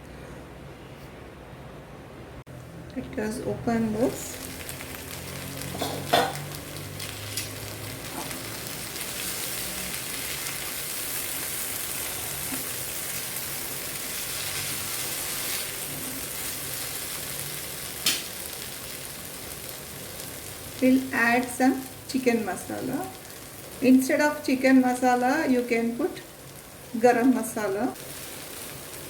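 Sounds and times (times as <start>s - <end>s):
vegetables sizzling in a pan: 3.7s - 29.0s.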